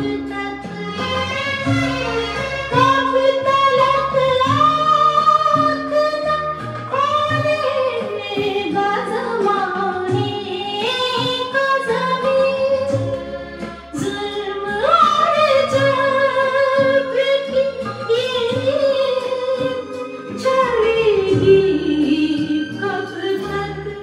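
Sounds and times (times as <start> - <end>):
instrumental backing: 0.0 - 24.0
woman singing: 0.0 - 24.0.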